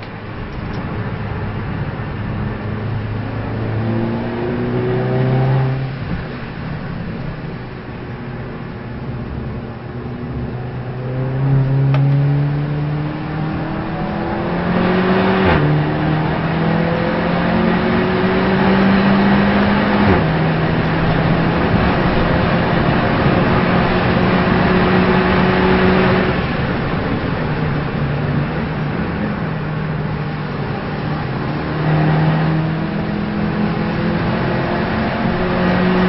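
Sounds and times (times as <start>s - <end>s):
road and tyre noise: 0.0s - 36.0s
race car engine accelerating: 2.1s - 7.4s, 8.1s - 36.0s.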